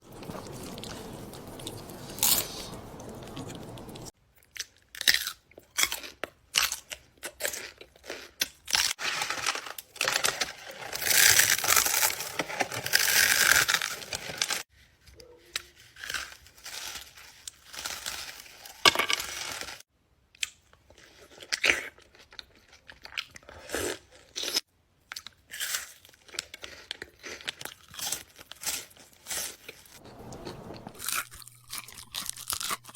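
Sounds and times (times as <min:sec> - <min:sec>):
crunchy bites and chewing: 0:00.0 - 0:14.5, 0:20.4 - 0:32.9.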